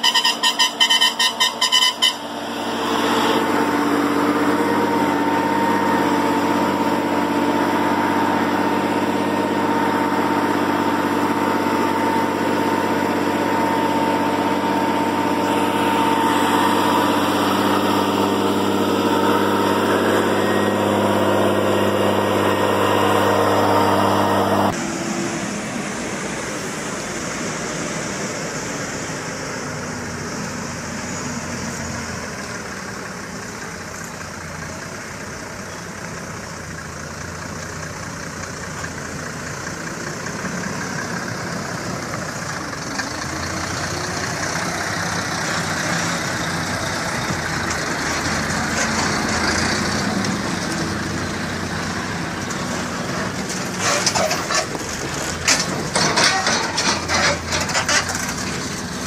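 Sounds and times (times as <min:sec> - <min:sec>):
diesel truck engine running: 0:00.0 - 0:59.0
truck rattling over rough track: 0:00.0 - 0:59.0.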